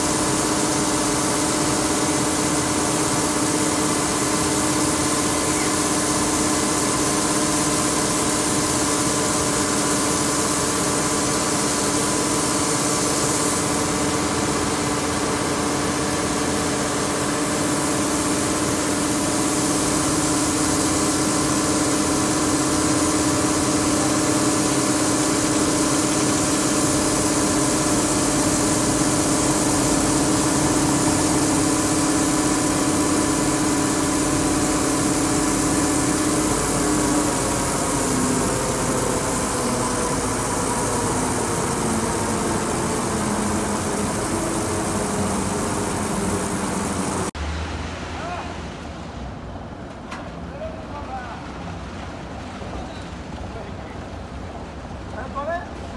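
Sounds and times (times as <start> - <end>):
machinery humming: 0.0 - 55.9.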